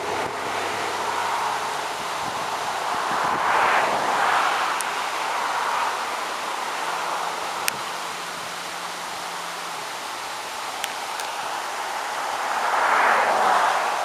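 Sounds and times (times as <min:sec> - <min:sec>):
creek cascading over rocks: 0:00.0 - 0:14.0
waterfall rushing: 0:00.0 - 0:14.0.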